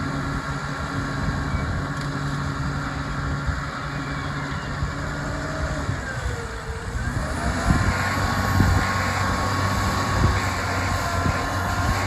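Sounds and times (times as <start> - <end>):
engine whine: 0.0 - 12.0
tractor engine under load: 0.0 - 12.0.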